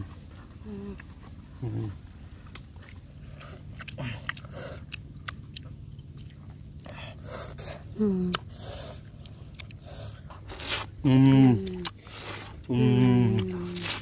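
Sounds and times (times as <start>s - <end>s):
chewing and lip-smacking: 0.0s - 14.0s.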